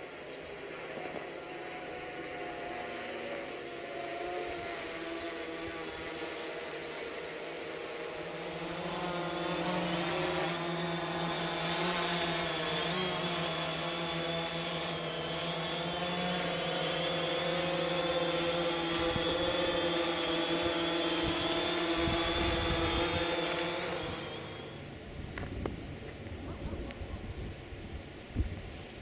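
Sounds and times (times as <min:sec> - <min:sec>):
high-pitched whine: 0:00.0 - 0:25.0.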